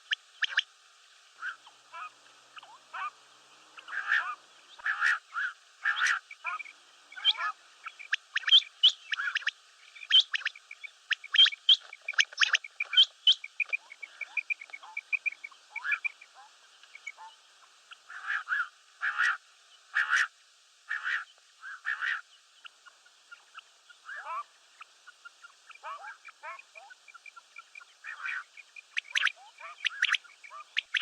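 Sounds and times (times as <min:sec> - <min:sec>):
quail calling: 0:00.0 - 0:00.7, 0:01.4 - 0:20.3, 0:20.9 - 0:31.0.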